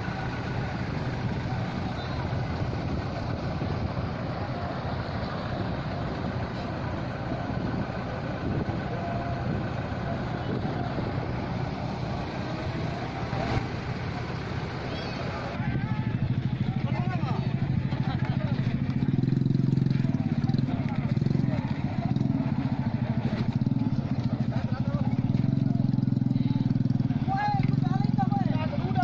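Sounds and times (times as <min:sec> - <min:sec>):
faint voices: 0:00.0 - 0:29.0
motor engine humming: 0:00.0 - 0:29.0.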